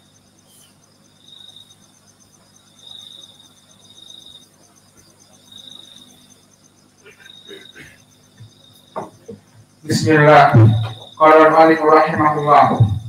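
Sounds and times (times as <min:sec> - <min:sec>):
faint low hum: 0:00.0 - 0:13.0
insects trilling: 0:00.0 - 0:13.0
pulsing insect chirp: 0:00.0 - 0:13.0.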